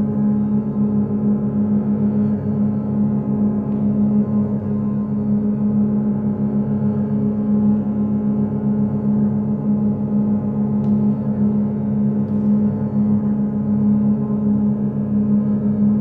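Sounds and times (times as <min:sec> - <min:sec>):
bowed double bass drone: 0:00.0 - 0:16.0.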